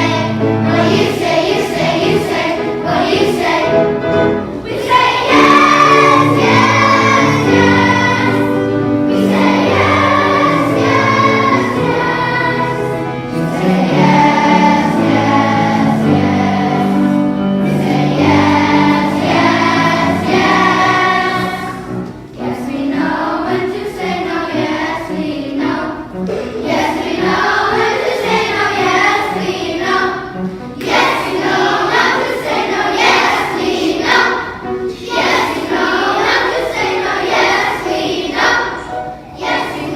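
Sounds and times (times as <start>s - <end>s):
children's choir singing: 0.0s - 39.9s
instrumental accompaniment: 0.0s - 39.9s.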